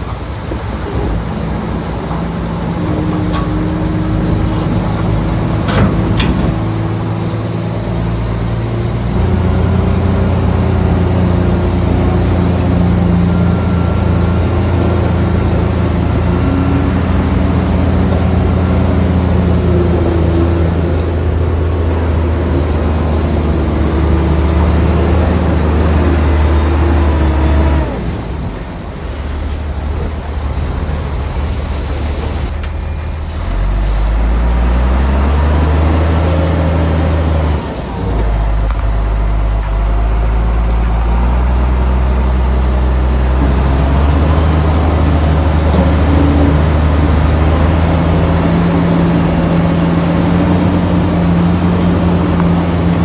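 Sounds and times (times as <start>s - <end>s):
heavy diesel engine working: 0.0s - 53.0s.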